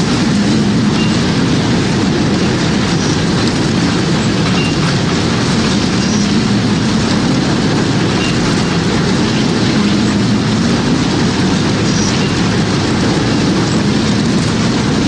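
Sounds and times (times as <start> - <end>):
loud rush of wind: 0.0 - 15.0.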